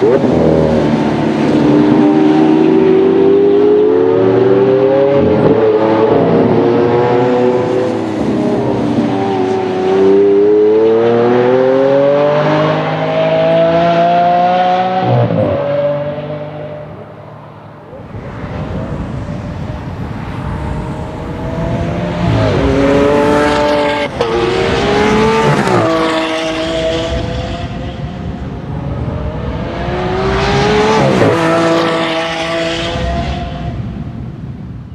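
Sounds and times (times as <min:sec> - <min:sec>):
racing car engines at high revs: 0:00.0 - 0:33.8.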